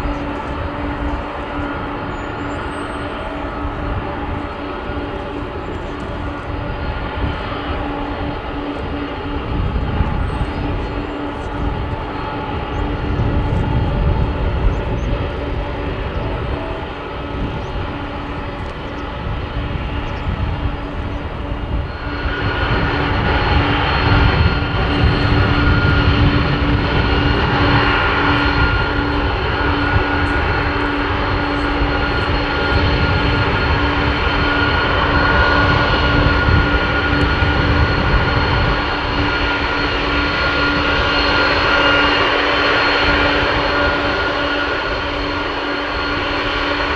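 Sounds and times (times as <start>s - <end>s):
jet engines whining and rumbling: 0.0s - 46.9s.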